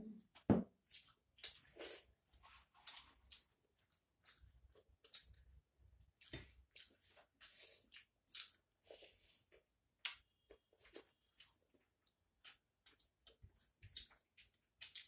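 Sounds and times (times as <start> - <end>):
people chewing and lip smacking: 0.8 - 15.0.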